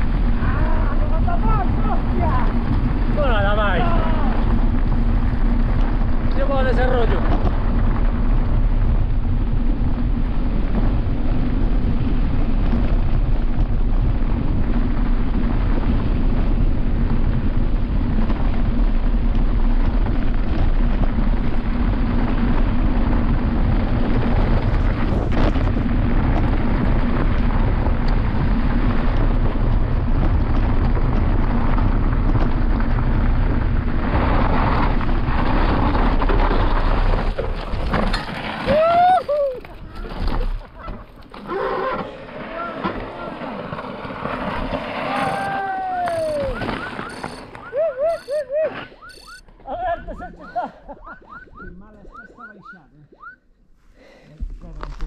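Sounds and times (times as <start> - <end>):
tyres rumbling over rough trail: 0.0 - 50.9
wind rushing over microphone: 0.0 - 55.0.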